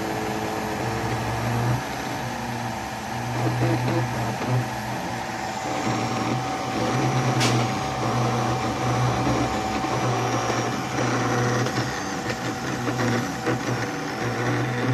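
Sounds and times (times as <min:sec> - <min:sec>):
machine motors humming: 0:00.0 - 0:14.9.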